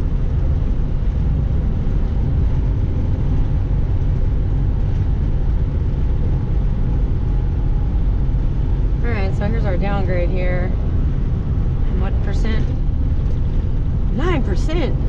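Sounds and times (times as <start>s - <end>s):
diesel truck engine rumble: 0.0s - 15.0s
road noise inside cab: 0.0s - 15.0s.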